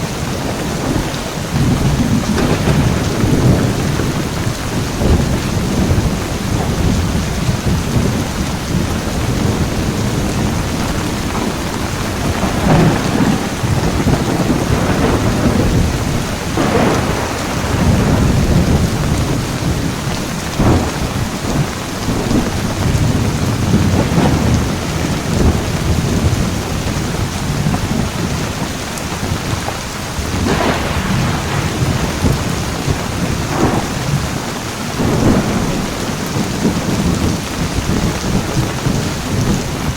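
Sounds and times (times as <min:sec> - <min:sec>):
heavy rain: 0:00.0 - 0:39.9
low rumble of thunder: 0:00.0 - 0:39.9
sharp thunder cracks: 0:00.4 - 0:28.4, 0:30.1 - 0:39.9.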